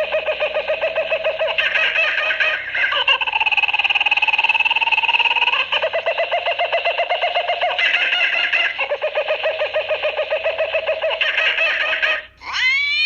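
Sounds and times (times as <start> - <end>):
pulsing bird trill: 0.0 - 12.7.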